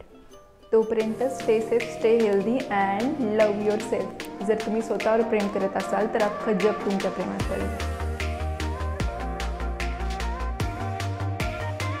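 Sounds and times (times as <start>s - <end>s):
electronic music with pulsing beat: 1.1s - 12.0s.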